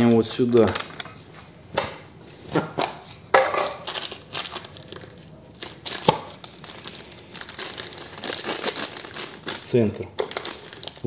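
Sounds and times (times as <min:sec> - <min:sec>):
plastic bags rustling: 0:00.0 - 0:01.6, 0:02.4 - 0:11.0.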